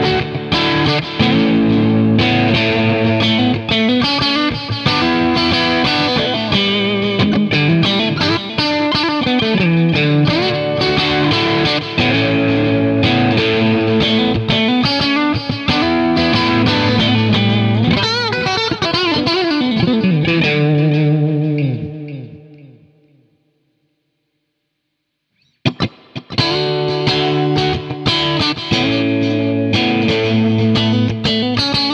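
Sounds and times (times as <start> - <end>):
electric guitar picked lines: 0.0 - 23.1, 25.6 - 31.9.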